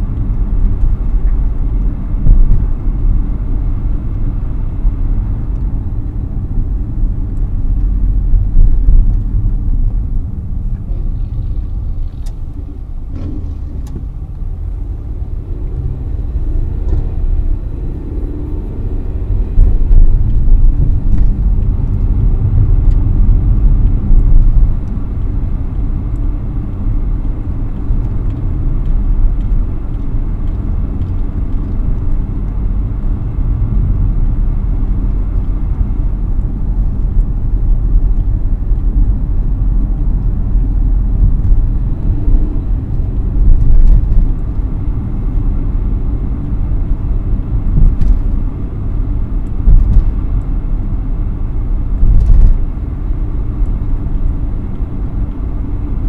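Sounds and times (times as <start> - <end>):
car engine and tyres rumble: 0.0 - 56.0.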